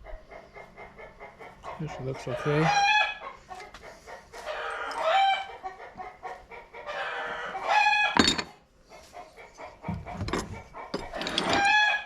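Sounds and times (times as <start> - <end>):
chickens crowing and cackling: 0.0 - 12.0.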